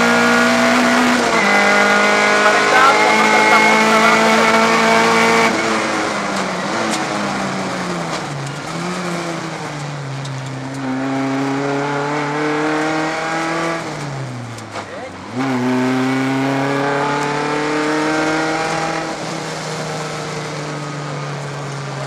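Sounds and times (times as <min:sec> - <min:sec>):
rally car engine revving: 0:00.0 - 0:22.0
road and wind noise: 0:00.0 - 0:22.0.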